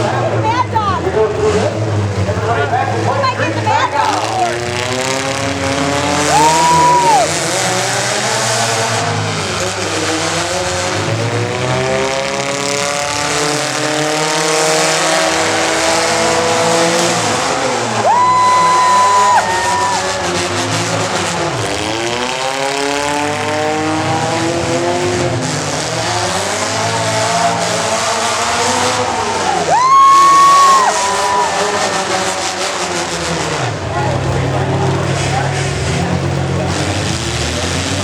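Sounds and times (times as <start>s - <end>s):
tires squealing: 0.0s - 38.0s
vehicle engine revving: 0.0s - 38.0s.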